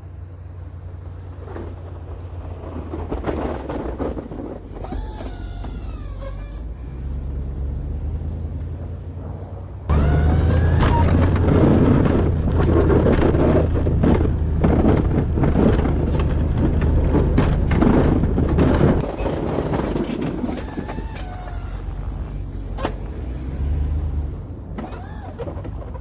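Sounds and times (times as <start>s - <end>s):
plow scraping snow: 0.0s - 26.0s
vehicle engine running: 0.0s - 26.0s.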